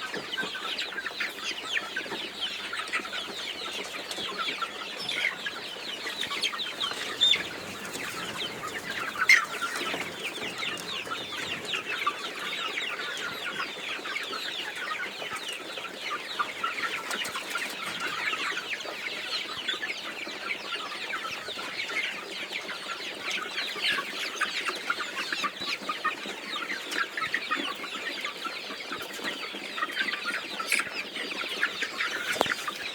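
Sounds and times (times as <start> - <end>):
chickens clucking and peeping: 0.0 - 32.9.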